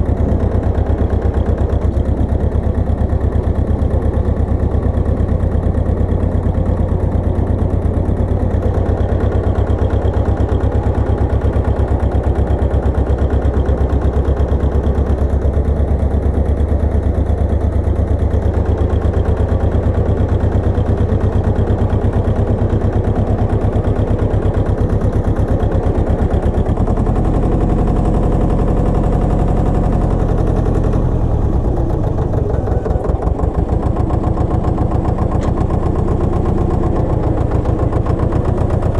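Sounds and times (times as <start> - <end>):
walking tractor engine pulsing: 0.0 - 38.9.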